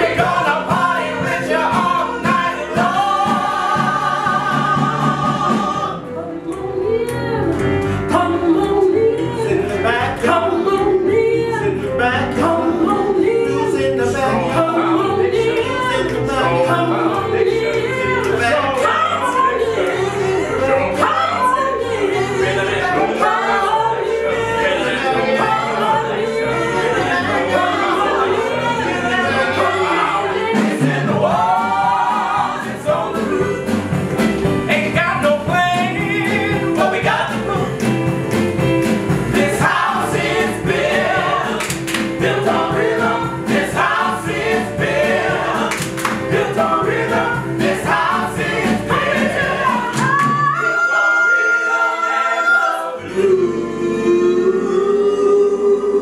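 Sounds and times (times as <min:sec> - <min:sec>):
instrumental accompaniment with beat: 0:00.0 - 0:51.4
backing singers: 0:00.0 - 0:56.0.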